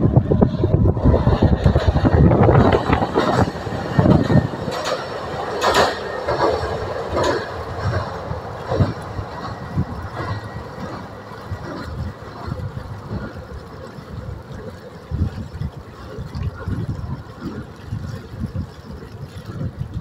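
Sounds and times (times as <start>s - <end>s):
railcar rumbling over bridge: 0.0s - 20.0s
wheels clattering over rail joints: 0.0s - 20.0s.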